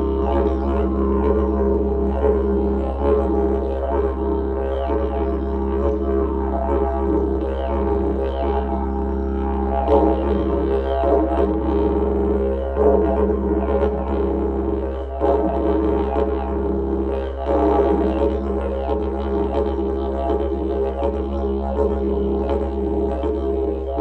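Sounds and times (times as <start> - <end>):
didgeridoo drone: 0.0 - 24.0.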